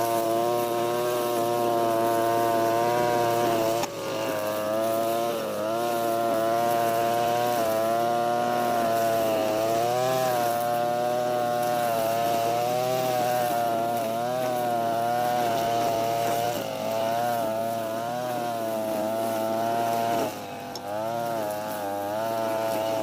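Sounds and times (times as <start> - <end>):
brush cutter running: 0.0 - 23.0.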